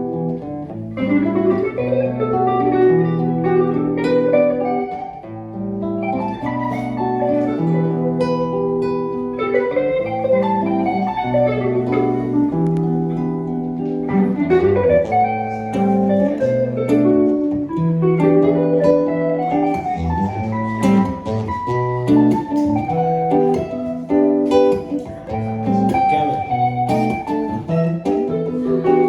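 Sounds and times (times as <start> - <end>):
acoustic guitar chords: 0.0 - 29.0
electric guitar lead notes: 0.0 - 29.0.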